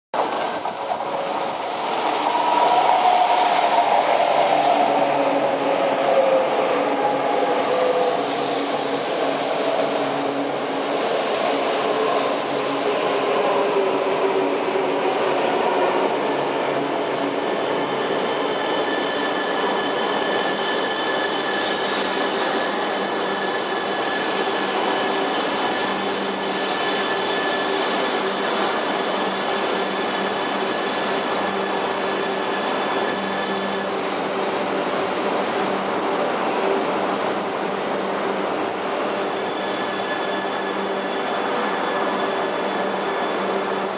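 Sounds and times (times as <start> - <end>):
train rolling noise: 0.2 - 43.9.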